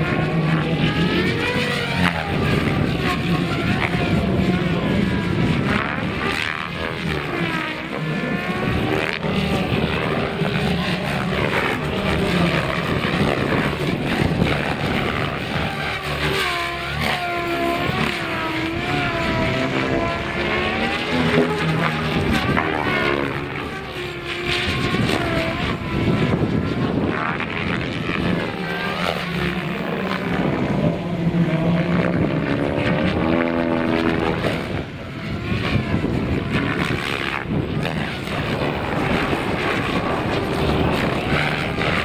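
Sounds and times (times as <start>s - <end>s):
rc helicopter motor and rotor whine: 0.0s - 42.0s.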